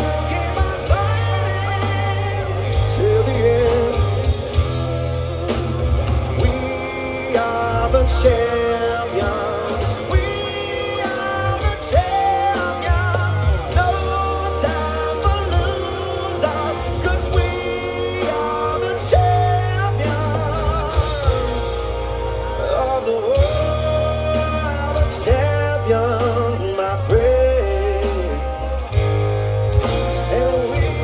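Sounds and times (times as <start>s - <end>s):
bass: 0.0s - 31.0s
drums: 0.0s - 31.0s
electric guitars: 0.0s - 31.0s
person singing lead vocal: 0.0s - 31.0s.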